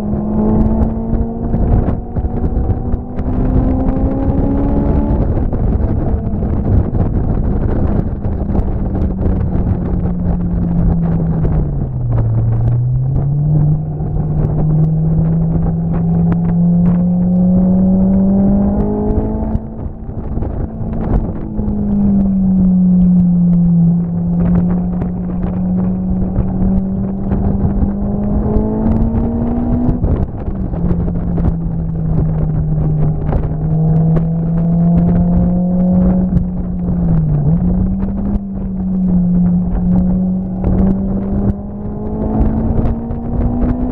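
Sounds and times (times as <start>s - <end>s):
rough rumbling noise: 0.0s - 43.9s
vehicle engine running: 0.0s - 43.9s.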